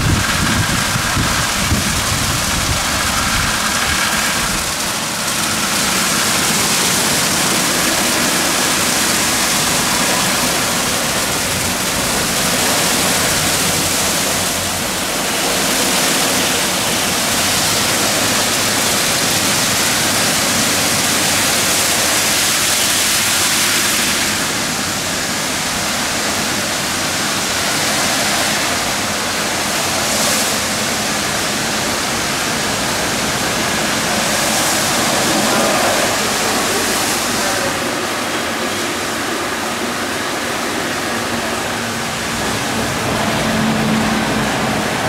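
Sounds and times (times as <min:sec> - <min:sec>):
car wash brushes hissing: 0:00.0 - 0:45.0.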